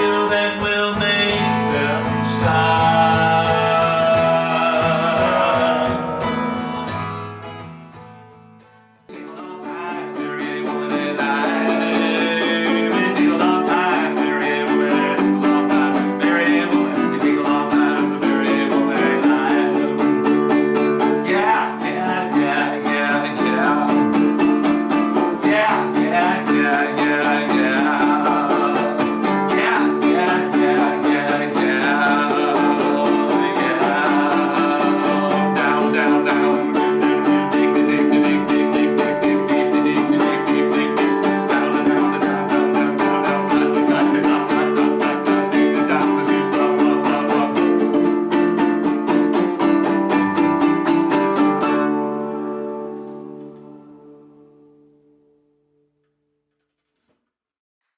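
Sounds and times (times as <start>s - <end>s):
plucked guitar music: 0.0s - 55.9s.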